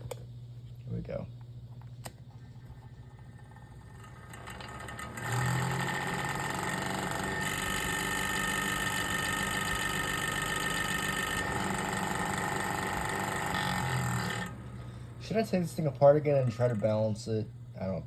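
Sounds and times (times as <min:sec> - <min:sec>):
fan heater motor droning: 0:00.0 - 0:18.0.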